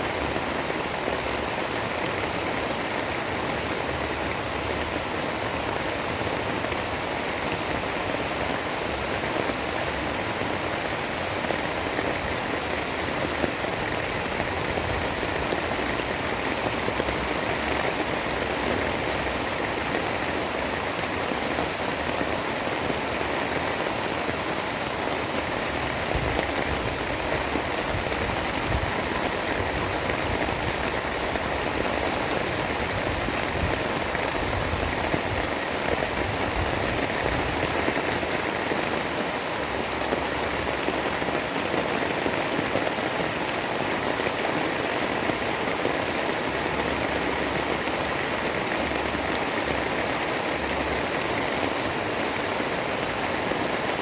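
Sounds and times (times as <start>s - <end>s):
rain hiss with low rumble: 0.0s - 54.0s.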